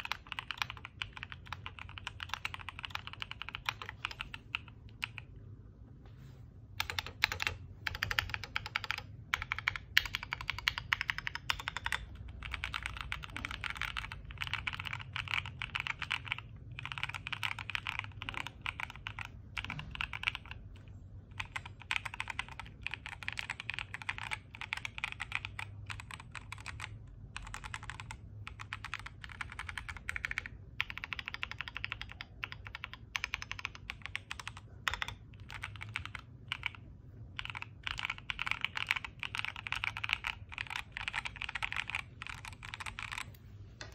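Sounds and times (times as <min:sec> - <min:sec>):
fast mechanical keyboard typing: 0:00.0 - 0:05.3, 0:06.8 - 0:43.9.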